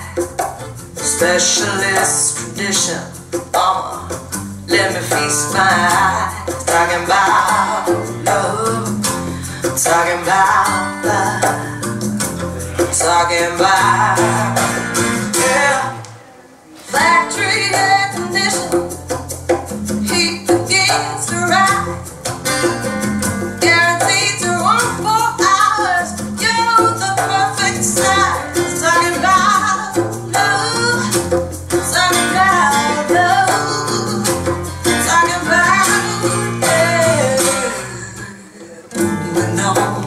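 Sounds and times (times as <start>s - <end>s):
woman singing: 0.0s - 0.4s, 1.0s - 12.2s, 12.8s - 19.1s, 20.0s - 22.1s, 23.6s - 40.0s
bass: 0.0s - 16.1s, 17.0s - 40.0s
shaker percussion: 0.0s - 16.1s, 16.8s - 40.0s
plucked guitar: 0.0s - 40.0s.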